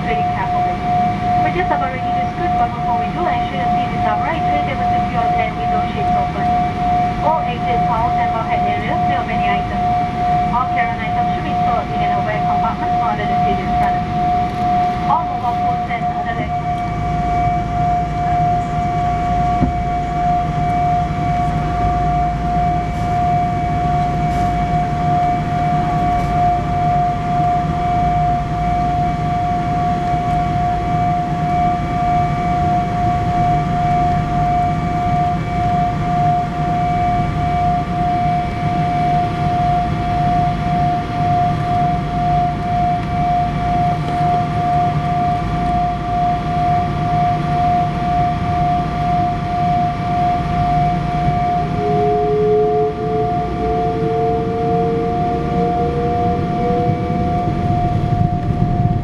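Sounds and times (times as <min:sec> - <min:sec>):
jet engine whine in cabin: 0:00.0 - 0:59.0.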